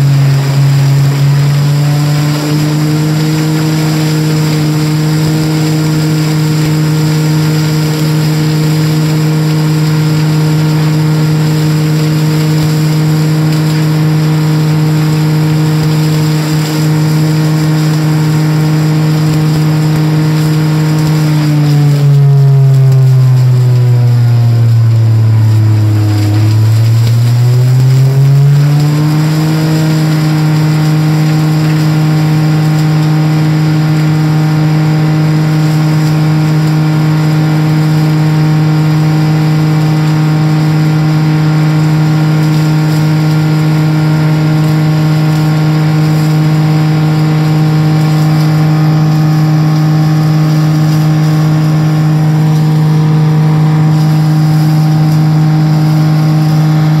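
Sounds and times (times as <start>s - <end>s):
bale processor grinding drone: 0.0s - 57.0s.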